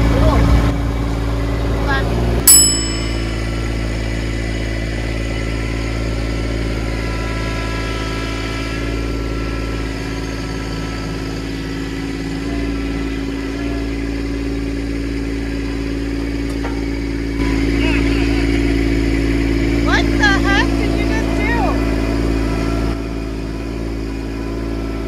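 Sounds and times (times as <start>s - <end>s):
diesel tractor engine idling: 3.2s - 25.0s.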